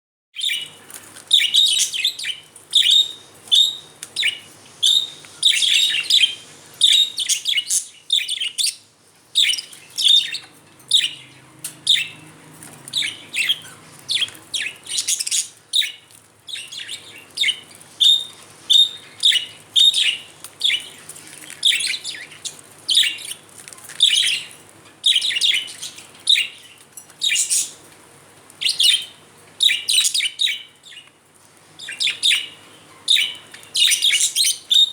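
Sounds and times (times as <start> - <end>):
budgerigars chirping: 0.4 - 8.8, 9.4 - 20.9, 24.0 - 27.8, 28.6 - 31.0, 31.8 - 34.9.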